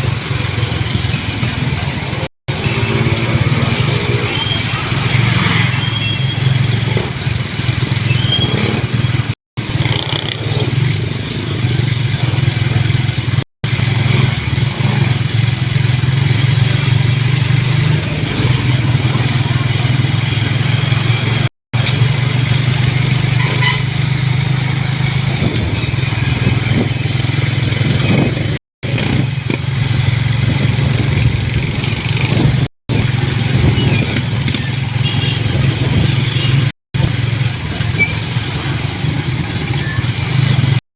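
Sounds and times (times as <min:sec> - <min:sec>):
vehicle engine and road noise: 0:00.0 - 0:40.8.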